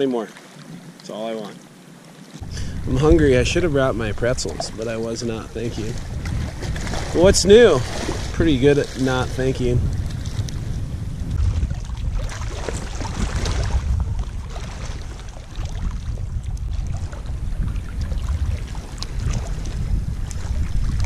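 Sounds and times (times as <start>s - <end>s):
wind buffeting microphone: 0.6s - 21.0s.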